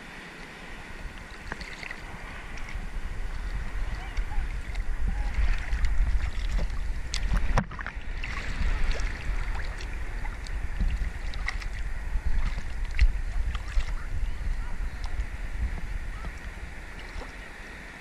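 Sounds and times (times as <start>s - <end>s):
wind on microphone: 0.0s - 18.0s
seawater sloshing and splashing: 1.2s - 18.0s.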